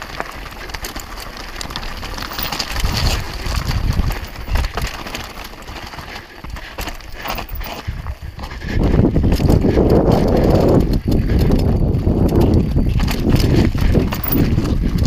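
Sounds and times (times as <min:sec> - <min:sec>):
bike rattling: 0:00.0 - 0:15.0
tyres crunching over stones: 0:00.0 - 0:15.0
wind buffeting microphone: 0:01.9 - 0:15.0.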